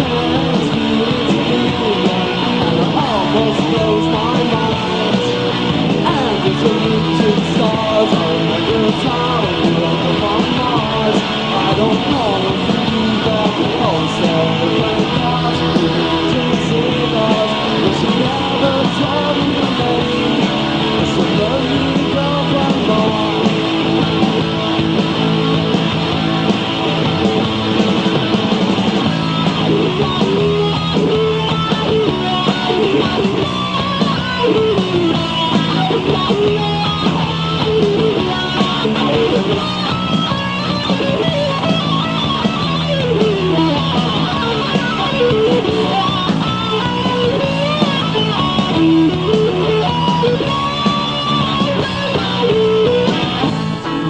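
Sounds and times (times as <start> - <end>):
electric guitar: 0.0 - 54.0
rock band playing: 0.0 - 54.0.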